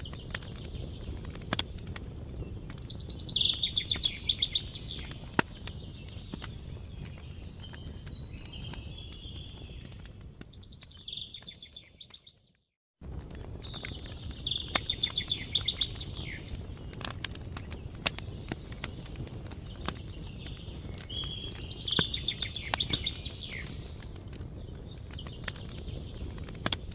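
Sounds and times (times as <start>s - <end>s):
songbirds singing: 0.0s - 12.7s, 13.3s - 26.9s
campfire crackling: 0.0s - 26.9s.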